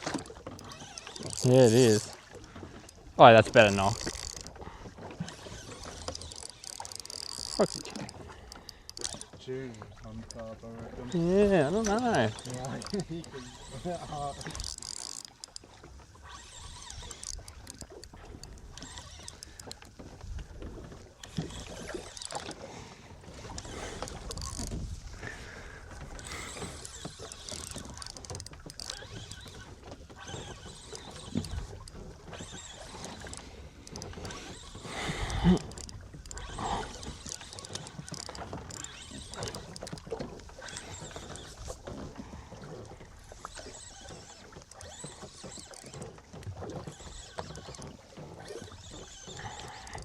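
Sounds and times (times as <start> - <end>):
water slapping against boat hull: 0.0 - 50.0.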